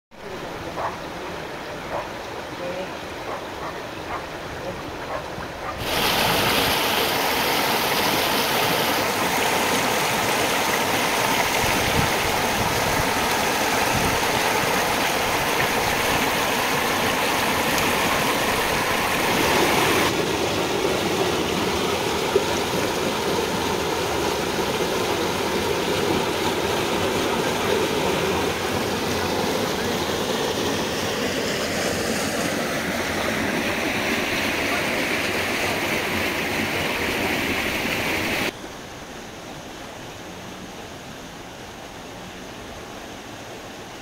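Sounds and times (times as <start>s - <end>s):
stream rushing over stones: 0.2s - 44.0s.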